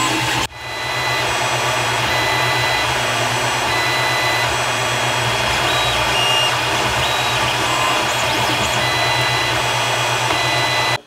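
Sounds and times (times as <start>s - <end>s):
fans humming: 0.0s - 11.0s
stepper motors whining: 0.0s - 11.0s.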